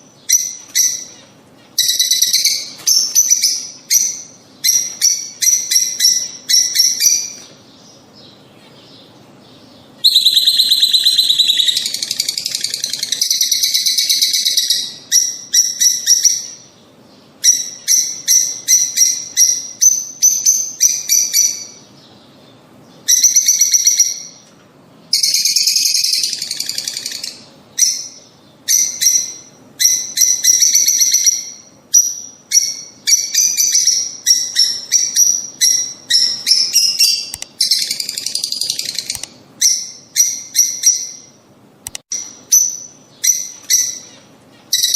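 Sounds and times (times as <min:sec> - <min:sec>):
lovebirds chirping and chattering: 0:00.0 - 0:44.9.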